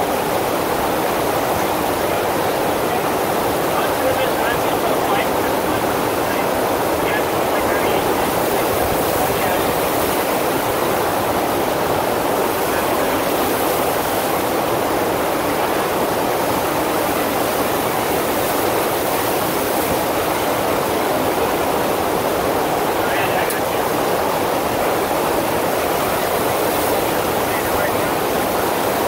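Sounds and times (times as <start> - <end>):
water rushing up a surface: 0.0 - 29.0.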